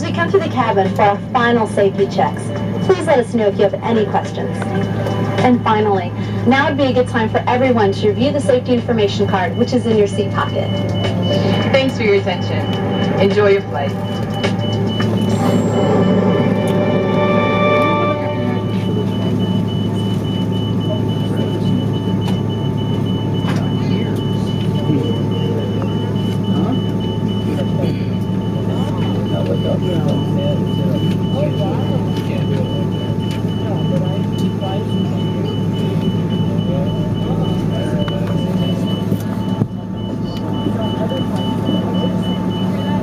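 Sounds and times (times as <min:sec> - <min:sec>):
airliner cabin hum: 0:00.0 - 0:43.0
rapid high beeps: 0:00.0 - 0:43.0
steady whine: 0:00.0 - 0:43.0.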